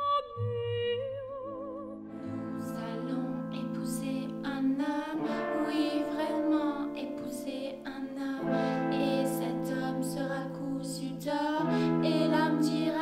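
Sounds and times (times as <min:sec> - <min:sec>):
women singing: 0:00.0 - 0:13.0
instrumental music: 0:00.2 - 0:13.0.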